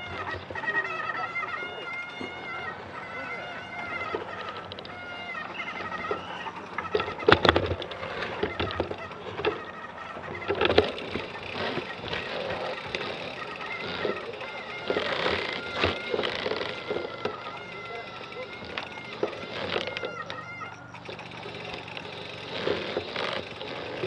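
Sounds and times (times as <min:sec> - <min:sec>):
bikes rattling and clunking: 0:00.0 - 0:24.0.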